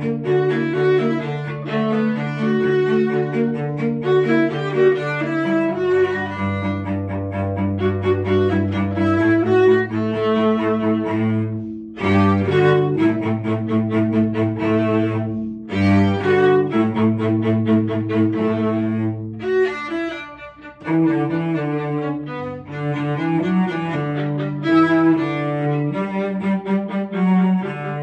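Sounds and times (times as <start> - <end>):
cello low notes: 0.0 - 28.0
viola melody: 0.0 - 28.0.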